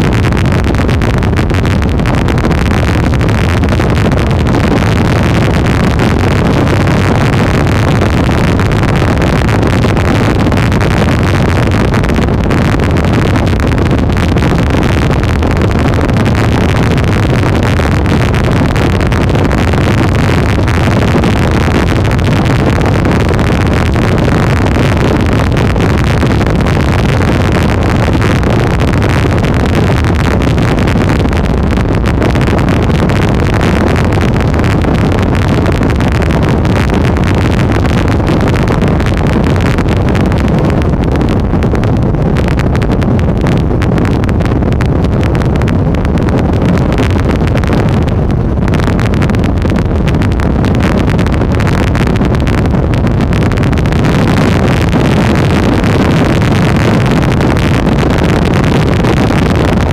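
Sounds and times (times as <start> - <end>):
rush of boat wake: 0.0 - 59.9
wind on microphone: 0.0 - 59.9.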